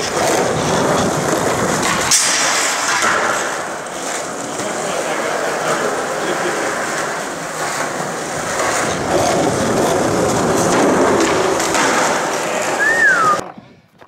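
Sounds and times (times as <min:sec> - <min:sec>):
skateboard wheels rolling on concrete: 0:00.0 - 0:14.0.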